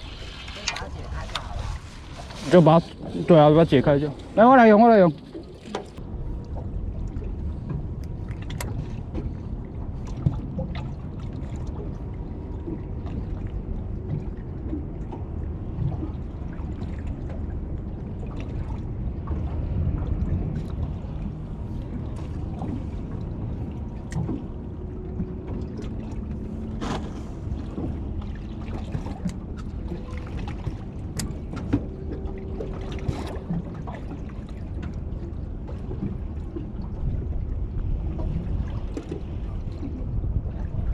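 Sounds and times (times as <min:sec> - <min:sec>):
seawater washing among rocks: 0:00.0 - 0:06.0, 0:07.4 - 0:40.9.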